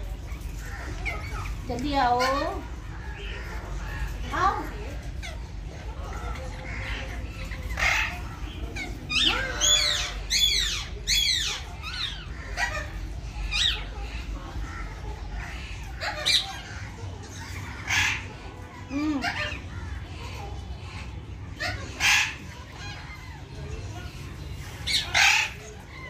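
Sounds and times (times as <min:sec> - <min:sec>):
parakeets screeching calls: 0:00.0 - 0:26.0.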